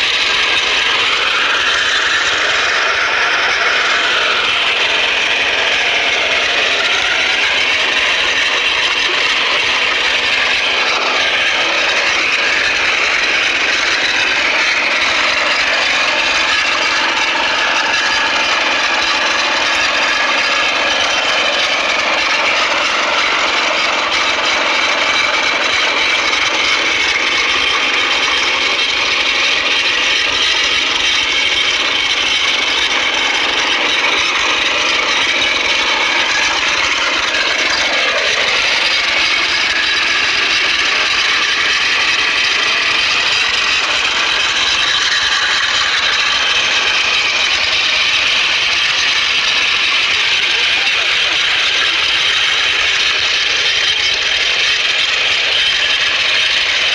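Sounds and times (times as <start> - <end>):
power tiller engine running: 0.0 - 56.9.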